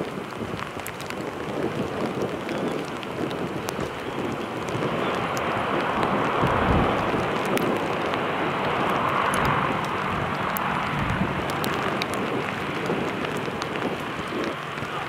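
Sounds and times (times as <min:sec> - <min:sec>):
turboprop engines rushing: 0:00.2 - 0:15.0.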